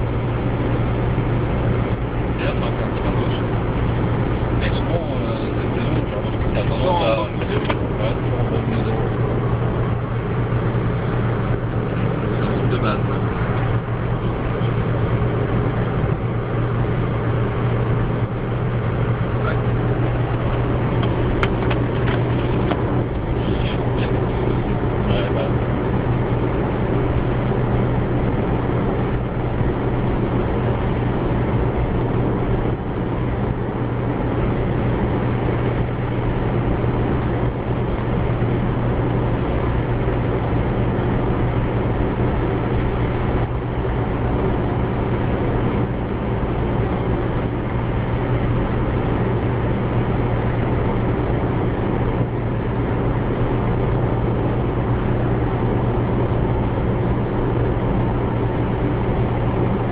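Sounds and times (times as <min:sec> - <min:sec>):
road and engine noise in car: 0:00.0 - 0:59.9.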